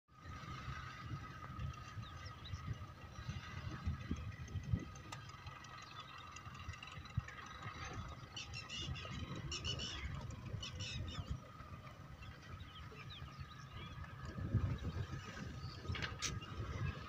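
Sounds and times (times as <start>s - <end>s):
wind gusts on microphone: 0.2s - 5.4s, 6.6s - 17.0s
small birds chirping: 1.5s - 17.0s.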